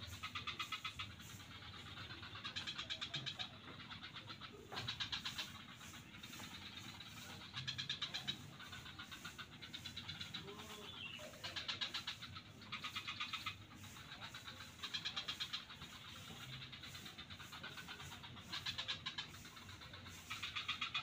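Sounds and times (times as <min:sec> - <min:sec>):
chorus of fainter frog calls: 0:00.0 - 0:21.0
frogs calling in rapid clicking pulses: 0:00.0 - 0:21.0.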